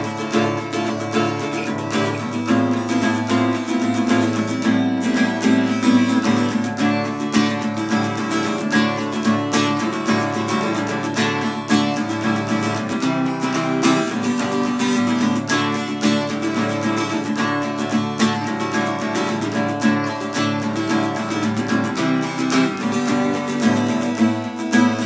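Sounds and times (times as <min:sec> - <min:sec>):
acoustic guitar strummed fast: 0:00.0 - 0:25.0.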